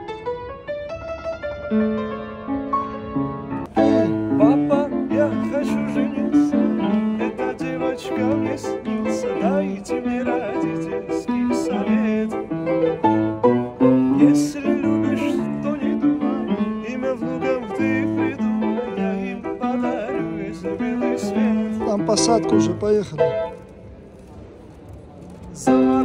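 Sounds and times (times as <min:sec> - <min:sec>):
piano playing: 0:00.0 - 0:26.0
sliding melody line: 0:02.0 - 0:23.7.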